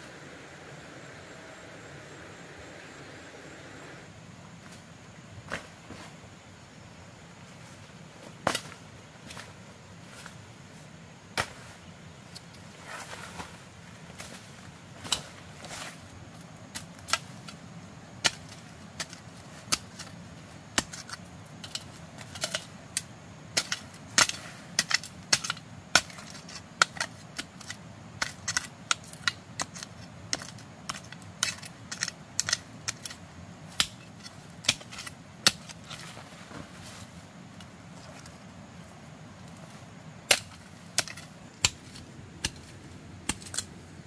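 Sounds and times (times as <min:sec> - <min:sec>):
low background noise: 0:00.0 - 0:44.0.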